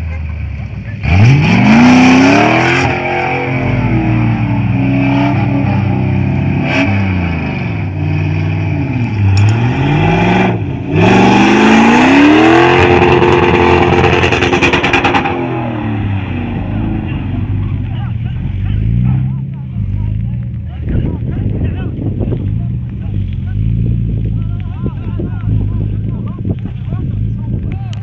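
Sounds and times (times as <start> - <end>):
car engine revving: 0.4 - 27.6.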